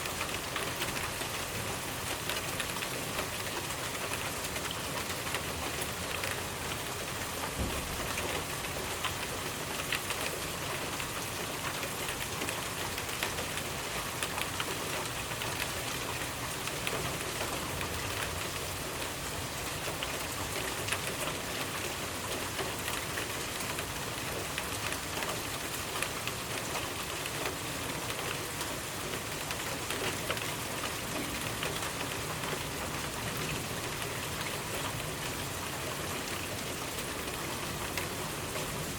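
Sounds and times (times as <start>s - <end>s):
raindrops pattering: 0.0s - 38.9s.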